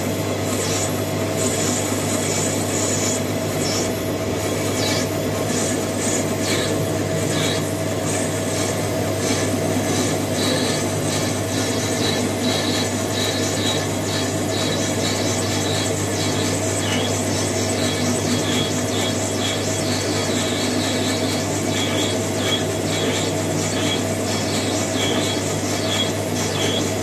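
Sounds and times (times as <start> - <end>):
lathe spindle hum: 0.0 - 27.0
tool scraping steel bar: 0.5 - 27.0.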